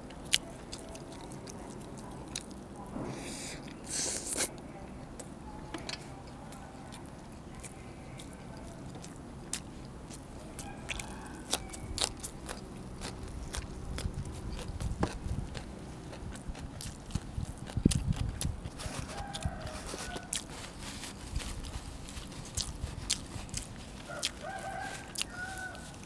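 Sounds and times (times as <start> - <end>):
person chewing food: 0.0 - 2.7, 6.5 - 26.0
crunching food: 0.0 - 2.8, 3.6 - 26.0.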